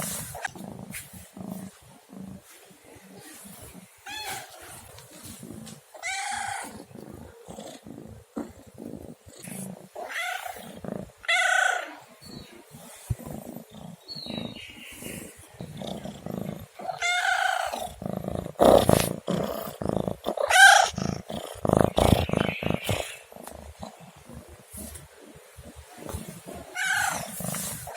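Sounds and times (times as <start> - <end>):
rustling: 0.0 - 19.9, 20.6 - 27.9.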